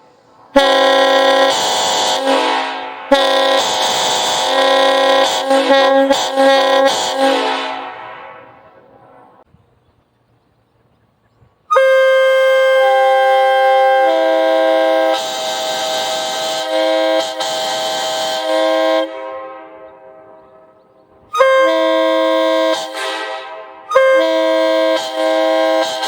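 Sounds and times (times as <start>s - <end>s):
train horn chord: 0.0s - 9.4s, 11.7s - 26.0s.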